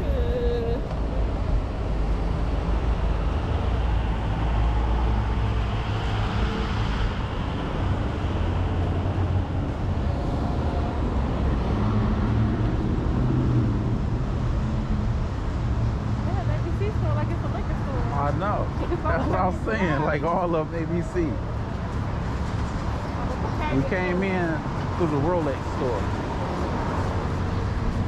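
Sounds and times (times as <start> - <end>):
engine humming: 0.0 - 28.0
road traffic rumble: 0.0 - 28.0
vehicle passing: 1.6 - 28.0.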